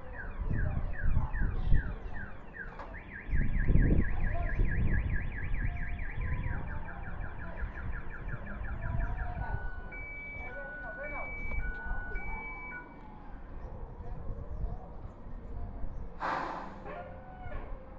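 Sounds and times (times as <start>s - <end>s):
reverse warning siren wail: 0.0s - 14.4s.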